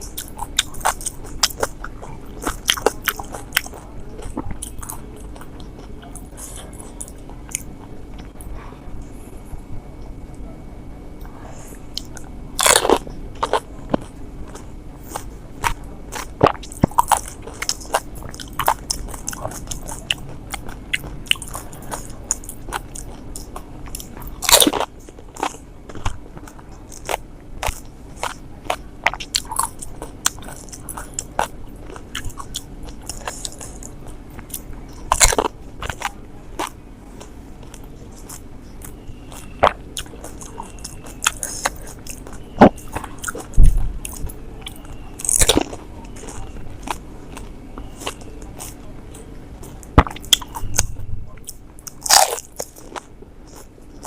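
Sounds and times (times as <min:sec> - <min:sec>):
crisp shells crunching when chewed: 0:00.0 - 0:08.5, 0:11.9 - 0:54.0.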